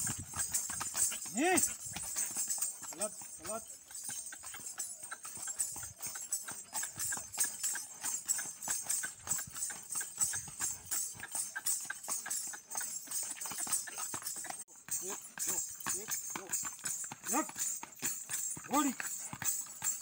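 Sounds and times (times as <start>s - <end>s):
bells jingling: 0.0s - 20.0s
horse hooves on packed ground: 0.0s - 20.0s.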